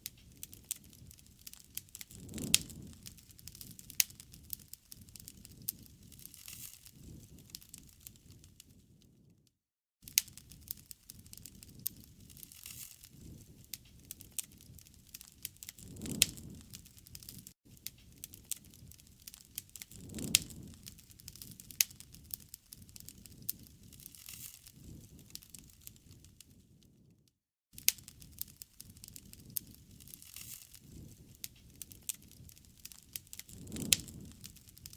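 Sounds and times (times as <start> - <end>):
wood fire crackling: 0.0 - 9.2, 10.0 - 27.1, 27.7 - 34.9
low rushing of flame: 0.0 - 9.3, 10.1 - 27.1, 27.8 - 34.9.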